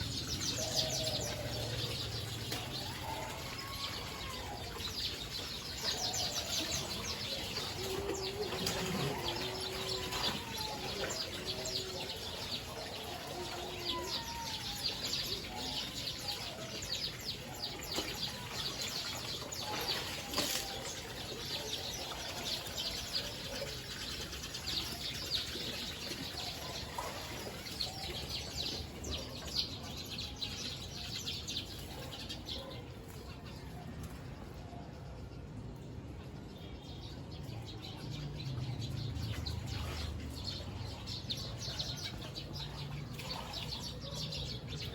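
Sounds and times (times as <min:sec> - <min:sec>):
flock of small birds chirping: 0:00.0 - 0:44.9.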